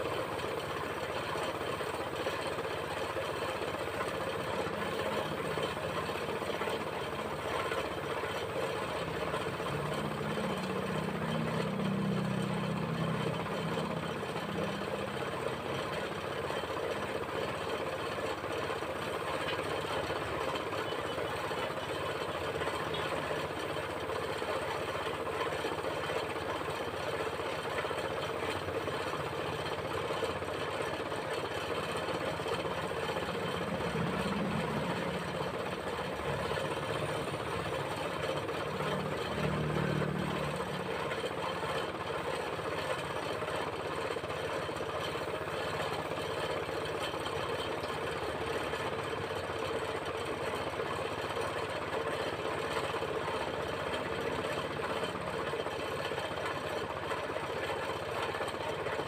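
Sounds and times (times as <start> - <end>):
air compressor running: 0.0 - 59.0.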